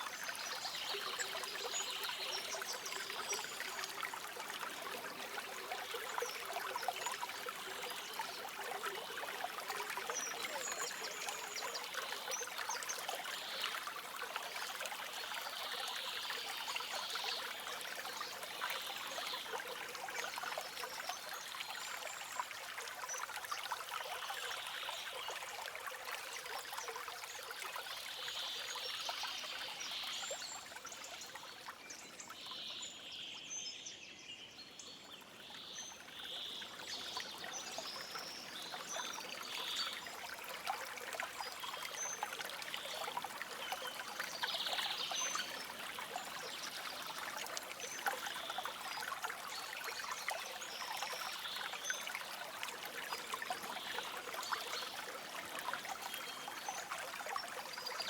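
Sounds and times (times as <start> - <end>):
forest stream trickling over stones: 0.0 - 58.0.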